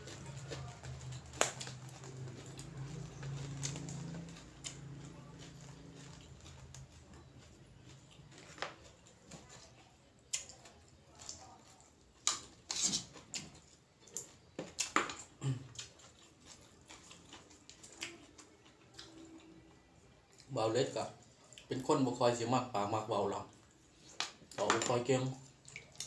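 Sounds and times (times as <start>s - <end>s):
chewing: 0.0s - 22.0s, 23.4s - 26.0s.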